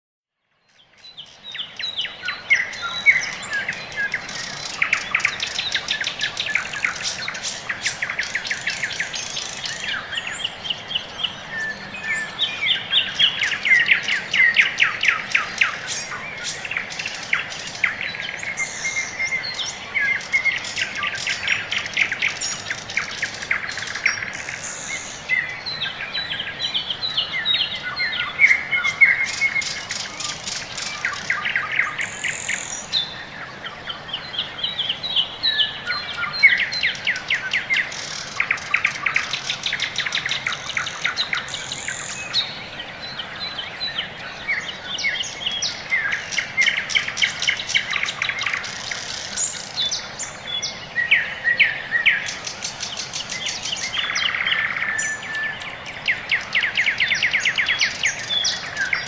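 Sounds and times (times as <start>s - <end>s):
birds chirping and trilling: 0.6s - 59.0s.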